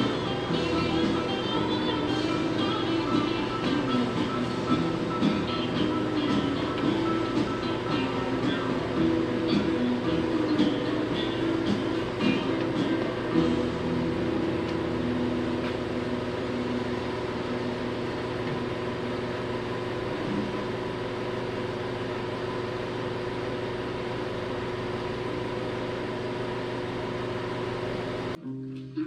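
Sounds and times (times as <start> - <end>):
machine humming: 0.0 - 29.0.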